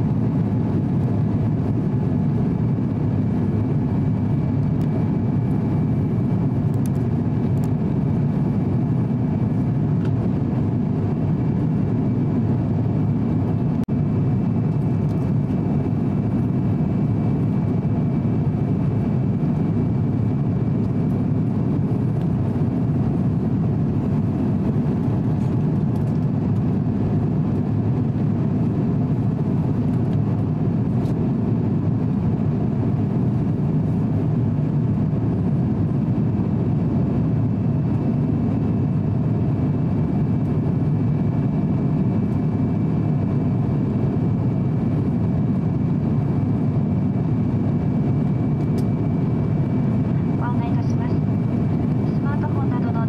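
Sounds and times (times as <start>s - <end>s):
airliner cabin roar: 0.0s - 53.0s.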